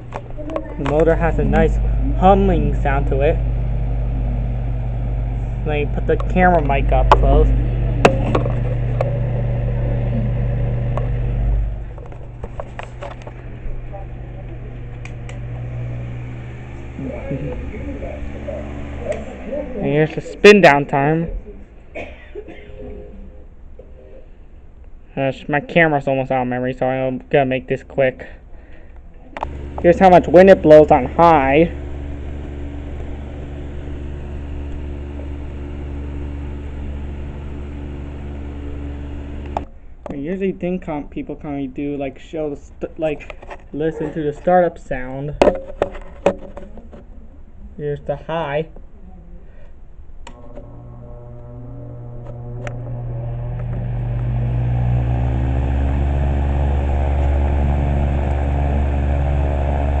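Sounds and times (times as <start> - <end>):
table fan running: 0.0 - 22.6, 29.3 - 46.3, 49.8 - 60.0.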